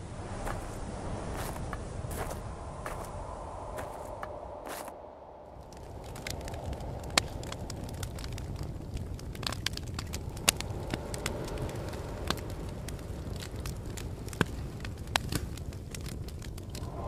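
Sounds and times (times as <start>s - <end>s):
steady low rumble: 0.0s - 17.0s
campfire crackling and popping: 0.4s - 17.0s.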